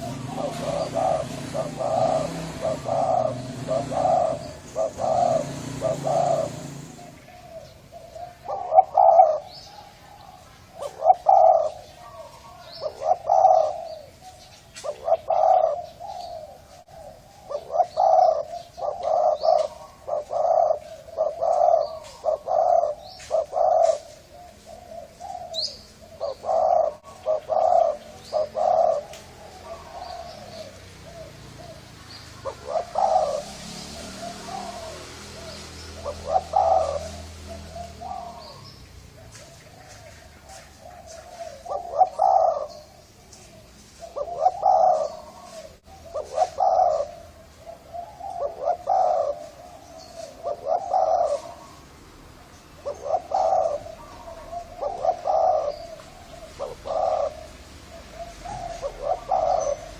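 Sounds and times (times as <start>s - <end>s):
dove cooing: 0.0s - 59.9s
small birds chirping faintly: 0.0s - 59.9s.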